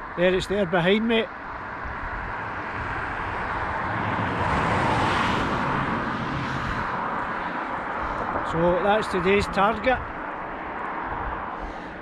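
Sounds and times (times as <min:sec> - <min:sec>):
vehicle passing on road: 0:00.0 - 0:12.0.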